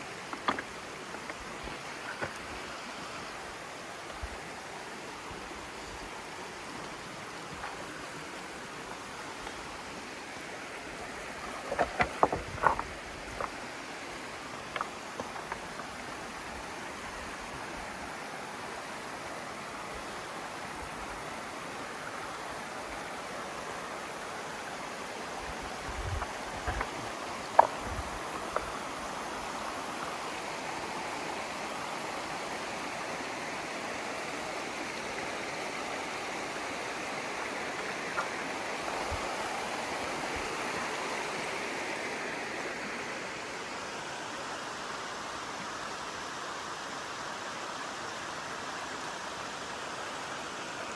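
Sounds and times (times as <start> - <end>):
river babbling over stones: 0.0 - 50.9.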